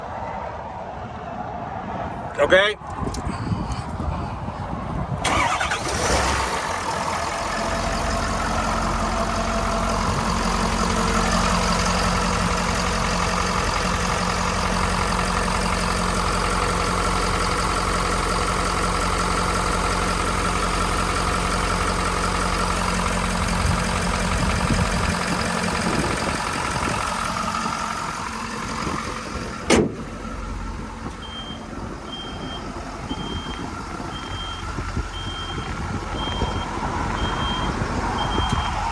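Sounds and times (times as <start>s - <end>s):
diesel engine starting and idling: 3.1s - 38.9s.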